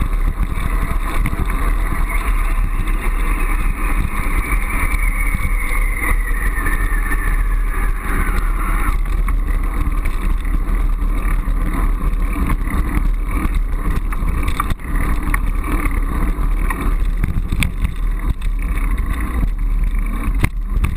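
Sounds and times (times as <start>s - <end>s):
faint falling whine: 0.0s - 20.9s
sharp clicks and rattles: 0.0s - 20.9s
wind and road rumble: 0.0s - 20.9s.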